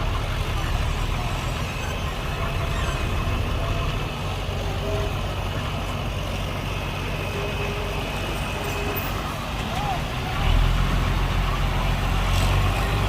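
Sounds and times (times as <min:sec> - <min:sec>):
diesel machinery engine drone: 0:00.0 - 0:13.0.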